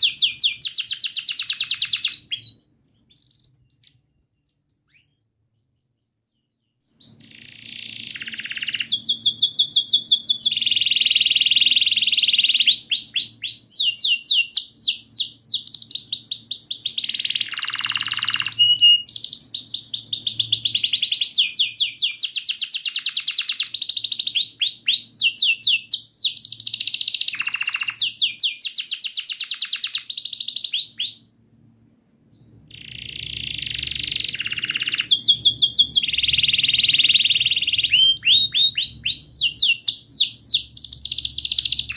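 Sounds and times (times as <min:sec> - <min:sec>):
canary singing: 0:00.0 - 0:31.3, 0:32.3 - 0:41.9.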